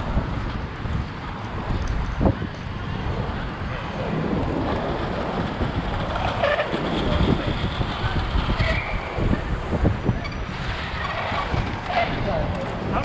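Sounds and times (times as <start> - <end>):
skate wheels rolling on asphalt: 0.0 - 13.0
wind buffeting microphone: 0.0 - 13.0.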